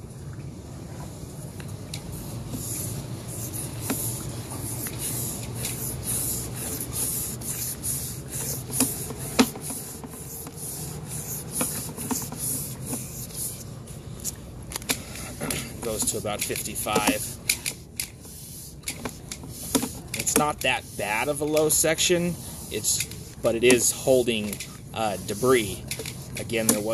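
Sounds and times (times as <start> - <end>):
steady low hum: 0.0 - 26.9
cable rubbing hiss: 2.1 - 26.9.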